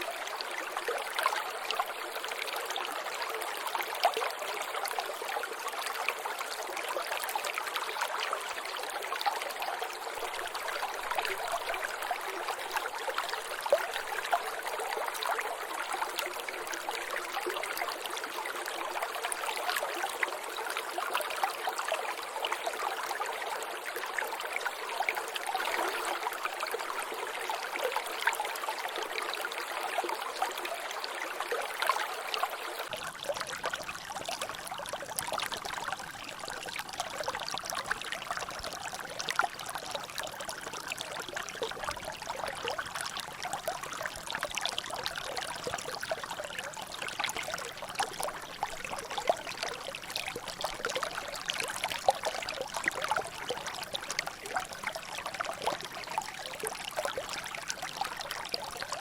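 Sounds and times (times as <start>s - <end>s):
water trickling and dripping: 3.7s - 59.0s.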